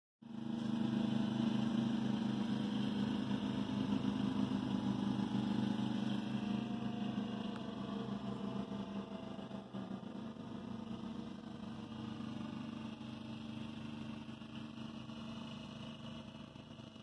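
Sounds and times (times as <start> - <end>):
engine humming steadily: 0.2 - 17.0.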